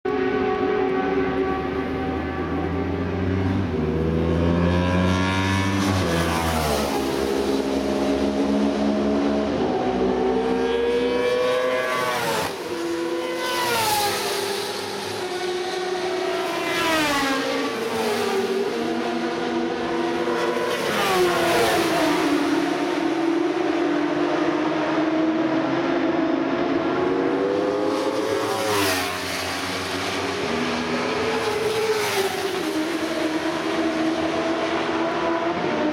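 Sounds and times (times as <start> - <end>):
motorcycles passing by: 0.1 - 25.7, 27.1 - 35.9
motorcycle engines at full throttle: 0.1 - 35.9.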